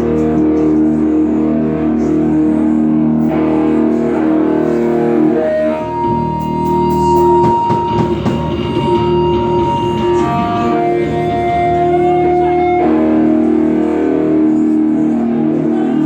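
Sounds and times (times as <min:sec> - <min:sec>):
guitar playing sustained notes: 0:00.0 - 0:16.0.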